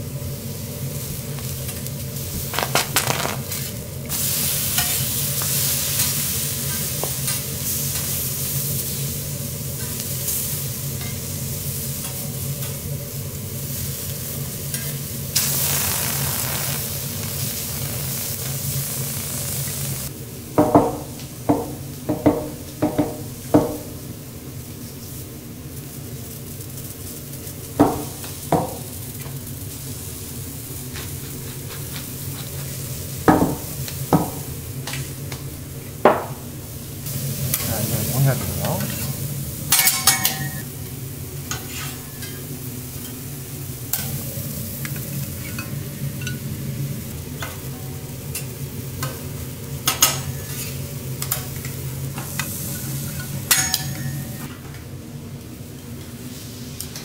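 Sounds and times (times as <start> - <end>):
vegetables sizzling on griddle: 0.0 - 54.5, 55.6 - 57.0.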